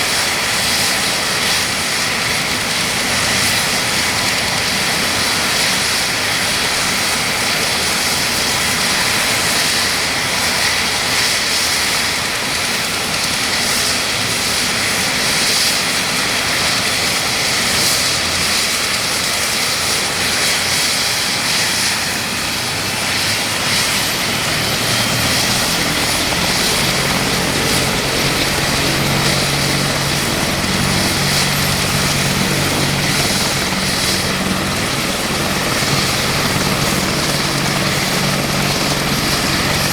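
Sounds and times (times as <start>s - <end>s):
helicopter engines whining: 0.0s - 39.9s.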